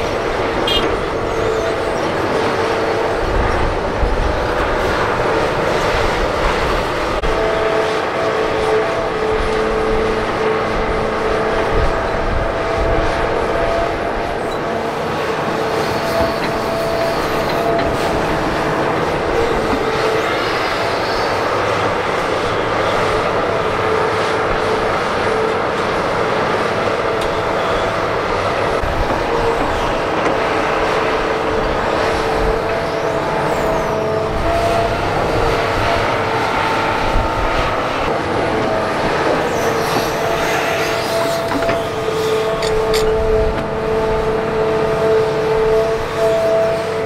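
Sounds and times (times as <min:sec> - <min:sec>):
excavator diesel engine under load: 0:00.0 - 0:47.0
hydraulic pump whine: 0:07.2 - 0:47.0.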